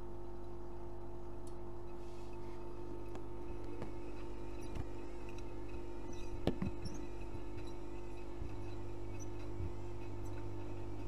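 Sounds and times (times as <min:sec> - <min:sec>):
washing machine motor humming: 0:00.0 - 0:11.0.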